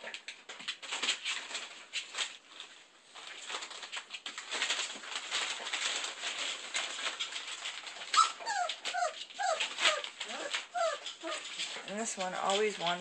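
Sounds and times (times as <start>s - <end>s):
puppies scratching and rustling: 0.0s - 13.0s.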